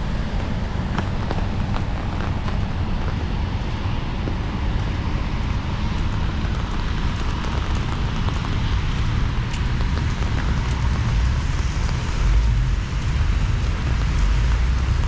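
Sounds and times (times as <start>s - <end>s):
faint ticks of raindrops: 0.0s - 15.0s
wind buffeting microphone: 0.0s - 15.0s.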